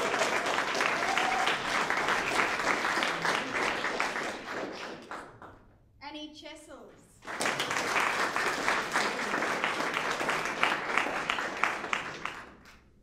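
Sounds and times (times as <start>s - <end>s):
audience applauding: 0.0s - 5.5s, 7.2s - 12.9s.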